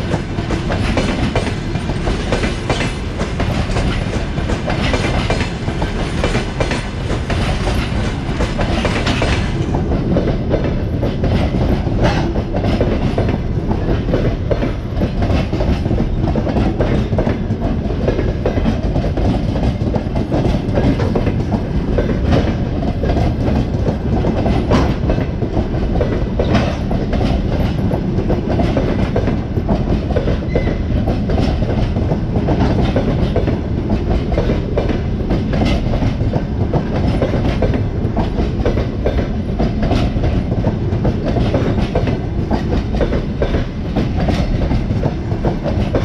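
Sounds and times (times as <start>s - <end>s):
train wheels rumbling on rails: 0.0s - 46.0s
wheels clicking over rail joints: 0.0s - 46.0s.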